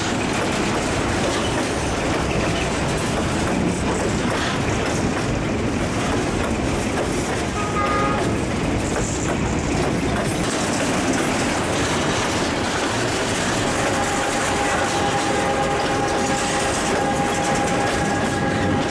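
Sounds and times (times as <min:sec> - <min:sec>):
freight train rumbling past: 0:00.0 - 0:18.9.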